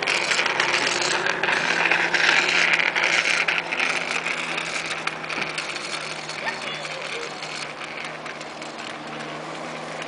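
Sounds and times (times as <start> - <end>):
jet ski engine drone: 0.0 - 10.0.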